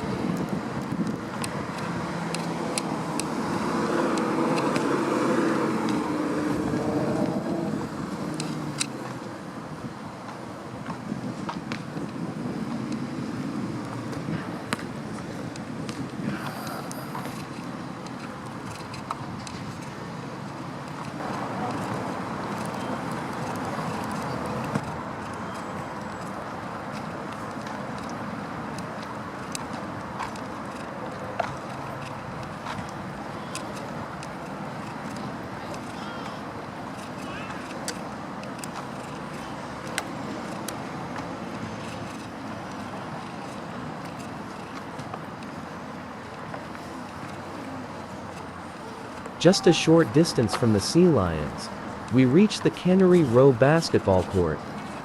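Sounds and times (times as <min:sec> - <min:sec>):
vehicle approaching: 0:00.0 - 0:09.3, 0:16.2 - 0:55.0
road traffic rushing: 0:00.0 - 0:55.0.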